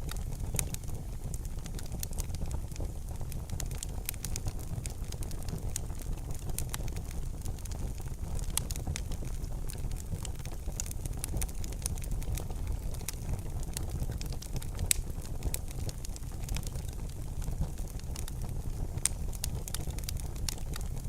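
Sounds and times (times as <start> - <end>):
fire crackling: 0.0 - 21.0
low rumble of fire: 0.0 - 21.0
sharp fire pops: 0.0 - 21.0.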